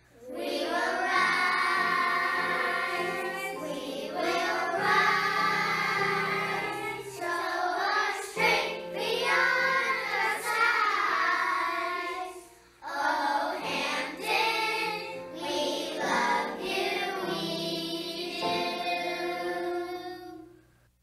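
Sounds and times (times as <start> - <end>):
children's choir singing: 0.0 - 20.5.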